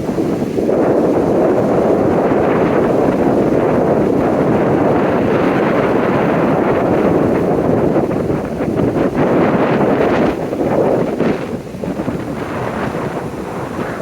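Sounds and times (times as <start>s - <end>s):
surf breaking on shore: 0.0s - 14.0s
wind buffeting microphone: 0.0s - 14.0s.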